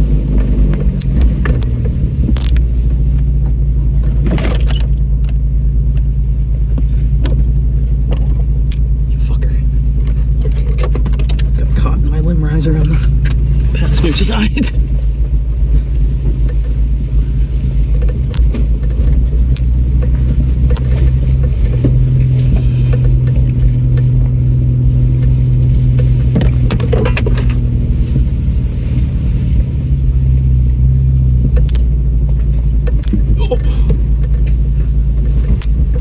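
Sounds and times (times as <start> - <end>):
knocks and rattles: 0.0 - 8.9, 9.9 - 11.9, 12.8 - 36.0
truck engine running low revs: 0.0 - 36.0.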